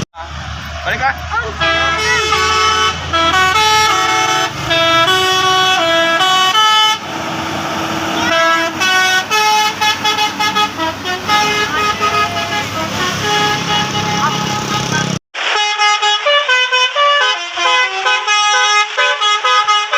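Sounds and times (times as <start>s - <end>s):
rushing noise: 0.0s - 19.9s
musical horn playing melody: 1.5s - 7.4s, 8.0s - 19.9s.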